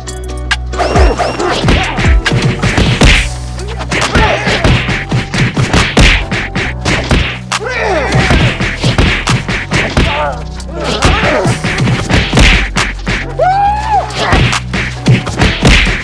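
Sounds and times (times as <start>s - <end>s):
background music: 0.0s - 16.0s
quick whacks and thuds: 0.8s - 13.3s, 14.2s - 16.0s.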